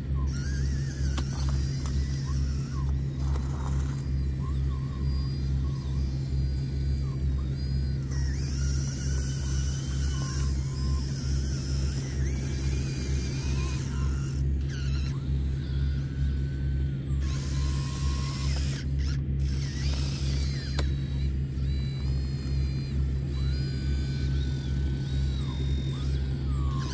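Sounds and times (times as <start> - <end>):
model excavator humming: 0.0 - 26.9
motor whining: 0.0 - 26.9.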